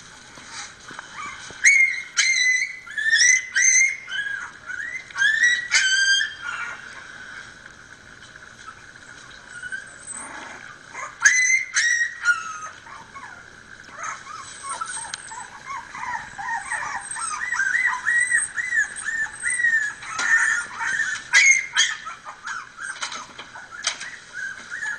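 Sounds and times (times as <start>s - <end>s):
puppies whimpering and squeaking: 0.3s - 7.5s, 8.5s - 24.9s.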